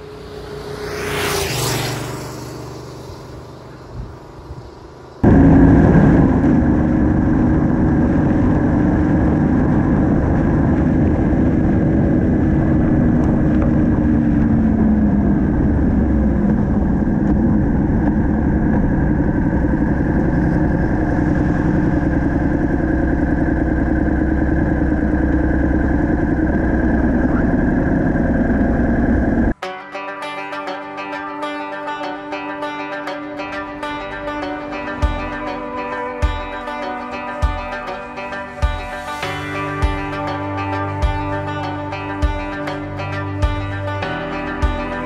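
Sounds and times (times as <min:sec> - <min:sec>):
motorcycle engine at low speed: 0:00.0 - 0:29.6, 0:32.6 - 0:45.0.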